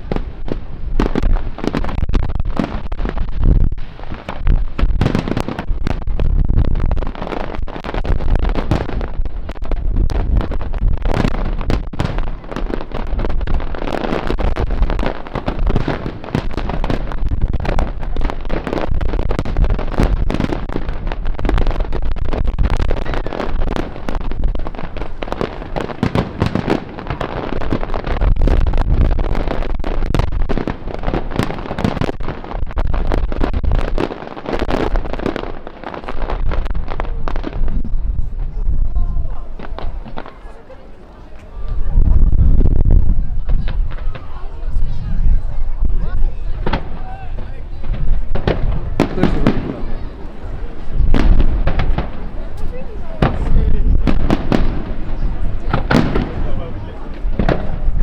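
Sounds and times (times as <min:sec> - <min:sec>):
firework shell bursts and crackling: 0:00.0 - 0:37.9, 0:39.5 - 0:58.0
deep firework booms: 0:00.0 - 0:58.0.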